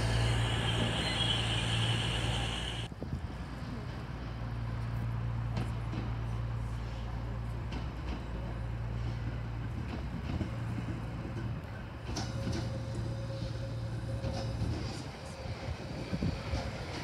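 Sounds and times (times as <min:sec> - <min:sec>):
train low hum: 0:00.0 - 0:17.0.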